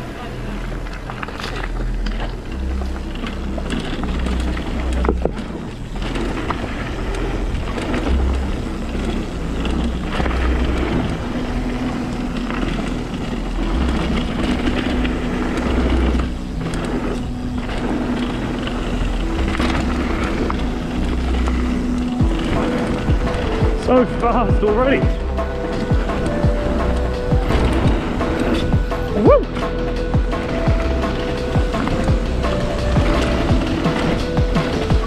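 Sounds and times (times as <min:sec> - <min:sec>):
bike knocks and rattles: 0:00.0 - 0:35.0
tyres rolling on dirt: 0:00.0 - 0:35.0
wind buffeting microphone: 0:00.0 - 0:35.0.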